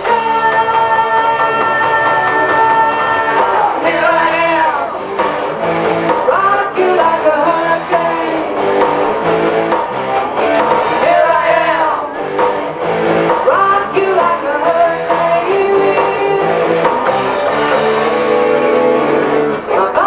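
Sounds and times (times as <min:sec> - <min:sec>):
person singing: 0:00.0 - 0:20.0
rock song: 0:00.0 - 0:20.0
steady beat: 0:00.0 - 0:20.0
strummed guitar: 0:00.0 - 0:20.0.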